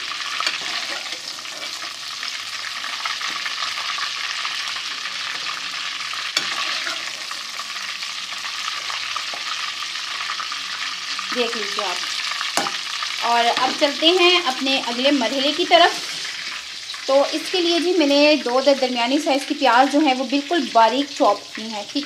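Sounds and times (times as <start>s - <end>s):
meat sizzling in hot fat: 0.0s - 22.0s.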